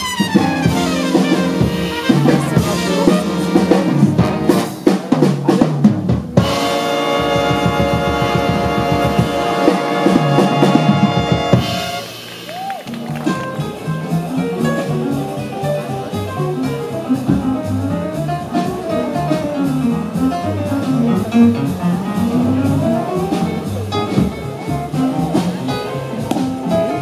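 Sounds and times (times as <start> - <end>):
jazz big band playing: 0.0 - 27.0.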